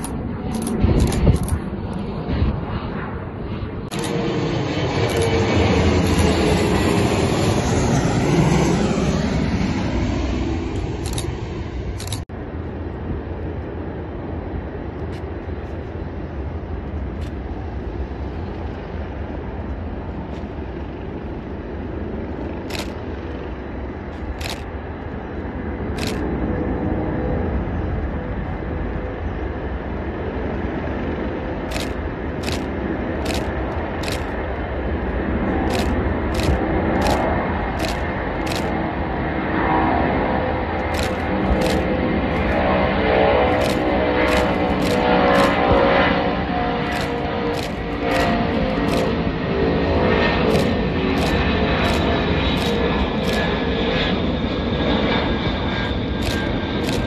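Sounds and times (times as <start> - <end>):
distant airport rumble: 0.0 - 57.0
jet airliner passing overhead: 0.0 - 57.0.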